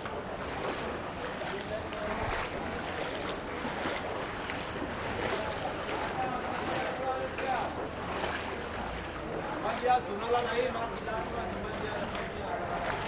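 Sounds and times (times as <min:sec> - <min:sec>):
faint distant voices: 0:00.0 - 0:13.0
moving floodwater: 0:00.0 - 0:13.0.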